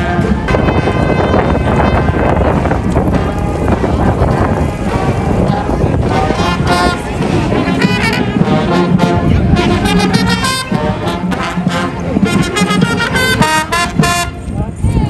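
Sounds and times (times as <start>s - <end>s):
marching brass band playing: 0.0s - 14.8s.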